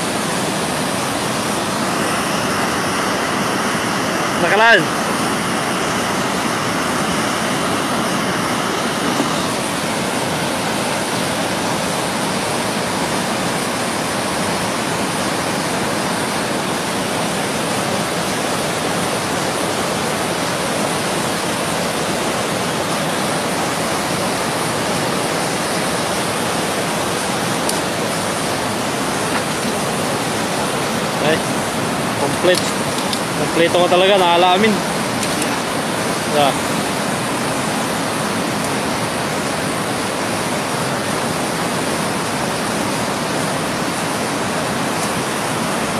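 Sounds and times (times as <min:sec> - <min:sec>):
river rapids rushing over rocks: 0:00.0 - 0:45.9.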